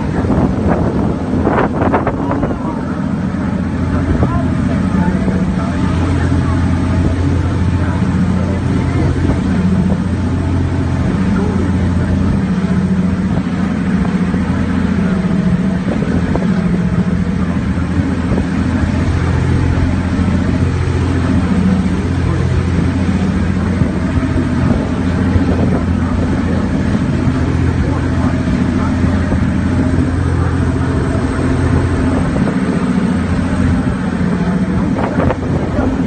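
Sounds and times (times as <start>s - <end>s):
boat engine droning: 0.0s - 36.0s
constant rushing noise: 0.0s - 36.0s.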